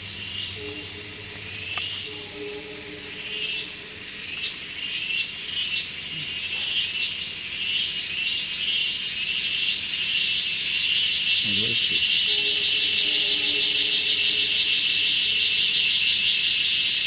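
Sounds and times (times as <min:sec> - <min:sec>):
insects buzzing shrilly: 0:00.0 - 0:17.0.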